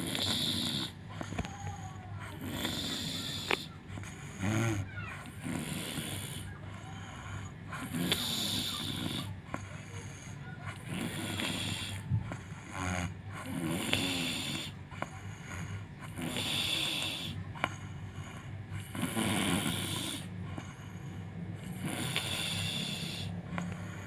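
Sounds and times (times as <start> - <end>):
woman snoring: 0.0 - 21.0, 21.6 - 24.0.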